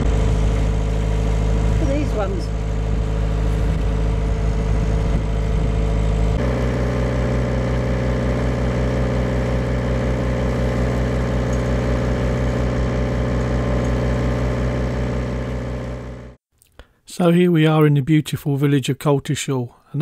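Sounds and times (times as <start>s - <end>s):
boat engine humming: 0.0s - 16.4s.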